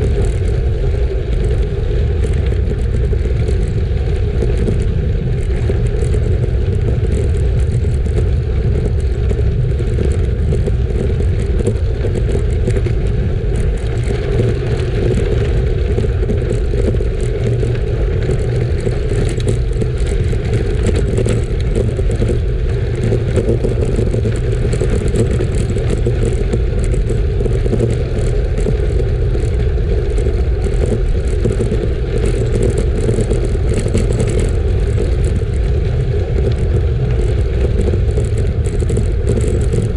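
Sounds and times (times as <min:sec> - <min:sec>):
bike tyres rolling: 0:00.0 - 0:39.9
fine crackle: 0:00.0 - 0:39.9
wind rush on microphone: 0:00.0 - 0:39.9.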